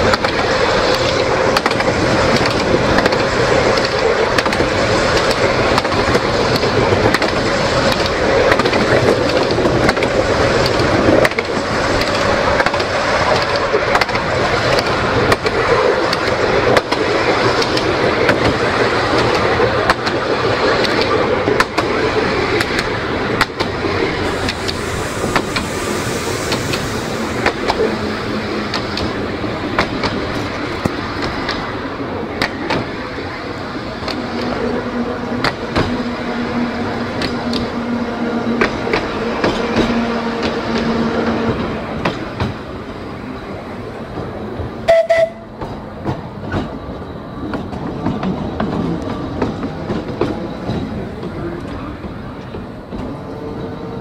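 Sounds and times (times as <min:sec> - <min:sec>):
tram wheels rumbling on track: 0:00.0 - 0:54.0.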